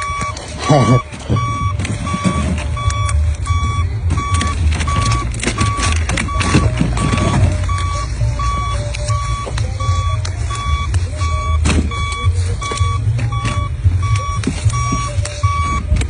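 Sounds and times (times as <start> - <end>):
engine rumbling: 0.0 - 16.0
vehicle backup alarm beeping: 0.0 - 16.0.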